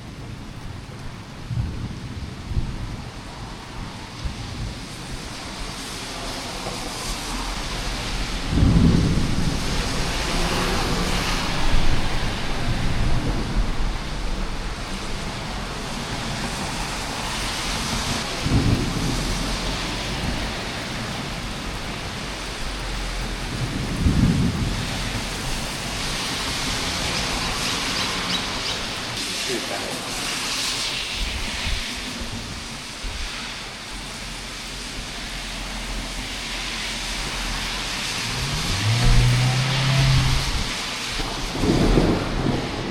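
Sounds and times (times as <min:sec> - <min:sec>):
heavy rain: 0:00.0 - 0:42.9
thunder claps and rumble: 0:00.0 - 0:42.9.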